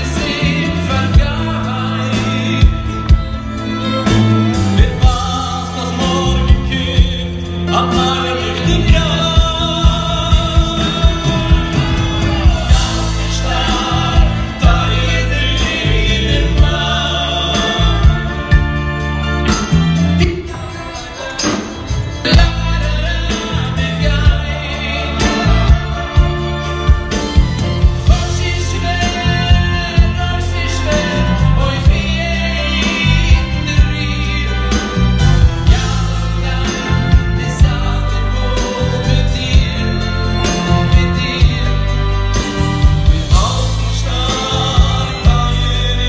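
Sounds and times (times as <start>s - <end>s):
man singing into microphone: 0.0s - 18.7s, 22.2s - 27.0s, 28.0s - 46.0s
amplified band: 0.0s - 46.0s
bass: 0.0s - 46.0s
keyboard: 0.0s - 46.0s
steady drum beat: 0.0s - 46.0s.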